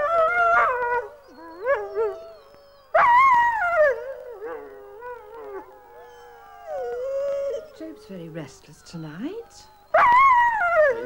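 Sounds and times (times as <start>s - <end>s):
dog howling: 0.0s - 11.0s
wolves howling: 0.0s - 11.0s.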